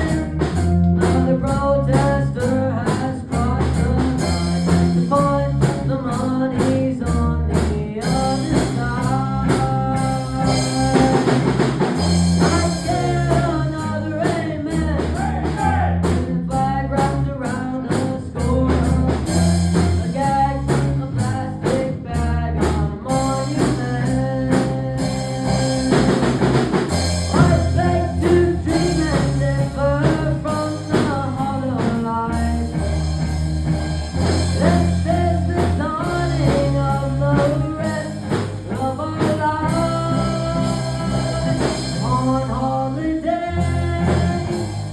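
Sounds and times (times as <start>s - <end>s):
person singing: 0.0s - 26.6s, 27.2s - 44.9s
bass guitar: 0.0s - 44.9s
drum kit beat: 0.0s - 44.9s
guitar: 0.0s - 44.9s.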